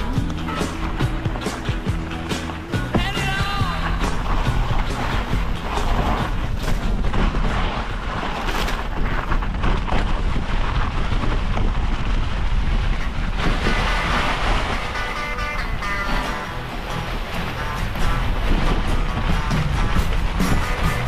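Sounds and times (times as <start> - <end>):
bike rattling over trail: 0.0 - 21.0
wind buffeting microphone: 0.0 - 21.0.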